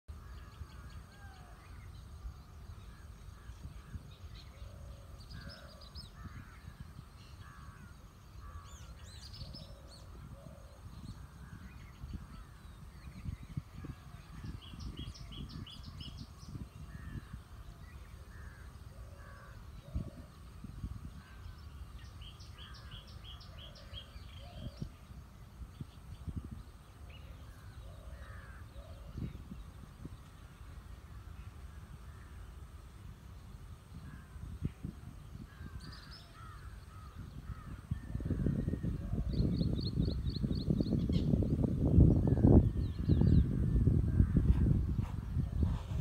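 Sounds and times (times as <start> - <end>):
birds calling: 0.1 - 46.0
wind buffeting microphone: 0.1 - 46.0.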